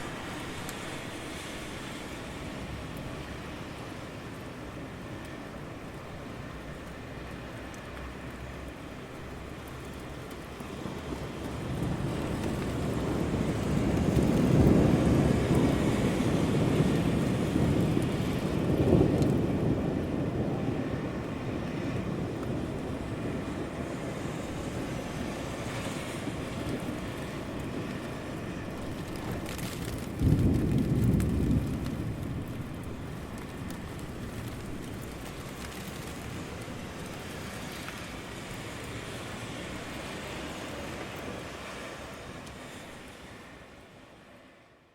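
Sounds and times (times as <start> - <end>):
low rumble of thunder: 0.0 - 40.0
steady rain: 0.0 - 44.9.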